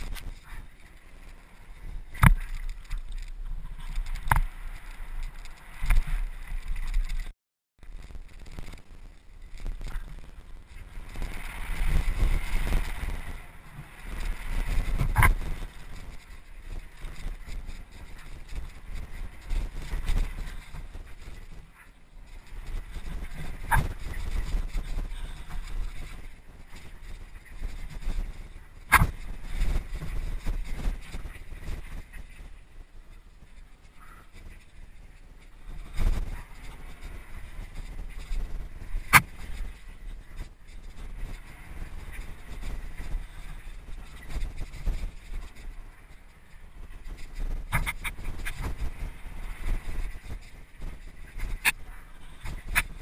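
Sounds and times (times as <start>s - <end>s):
bike knocking and rattling: 0.0s - 53.0s
tyres on loose ground: 0.0s - 53.0s
wind rush on microphone: 0.0s - 53.0s.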